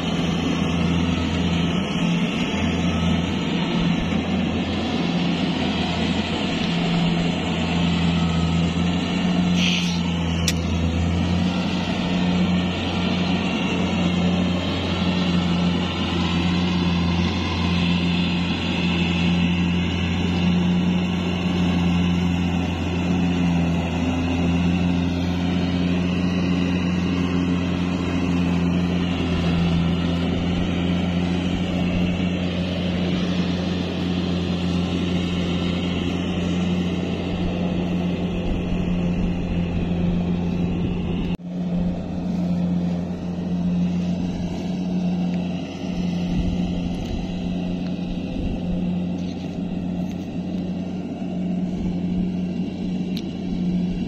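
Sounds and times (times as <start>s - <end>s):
combine harvester diesel engine: 0.0s - 54.0s
machinery drone: 0.0s - 54.0s.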